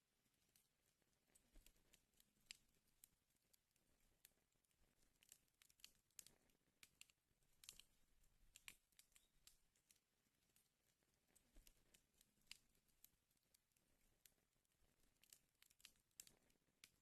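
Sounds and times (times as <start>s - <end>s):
wood fire crackling: 0.3s - 17.0s.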